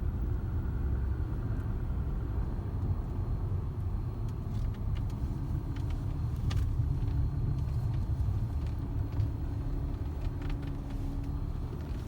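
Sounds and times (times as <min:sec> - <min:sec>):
low road rumble: 0:00.0 - 0:12.0.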